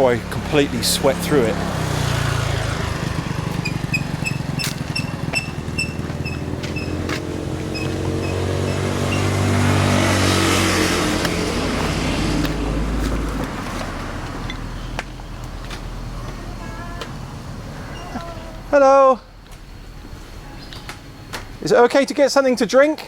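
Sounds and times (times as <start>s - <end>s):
vehicle engine passing by: 0.0s - 18.7s.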